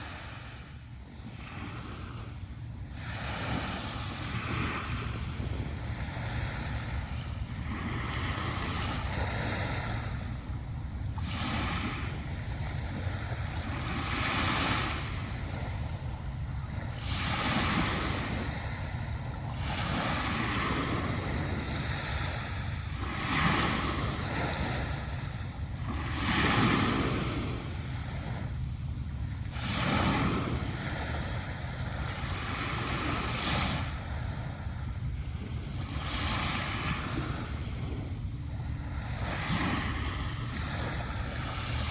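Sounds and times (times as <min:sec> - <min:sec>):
sea waves breaking on beach: 0:00.0 - 0:41.9.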